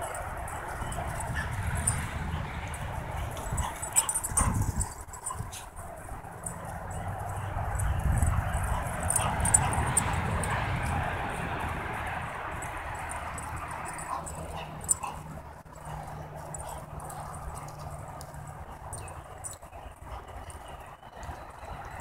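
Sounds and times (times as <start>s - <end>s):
dogs playing: 0.0s - 22.0s
paws running on grass: 0.0s - 22.0s.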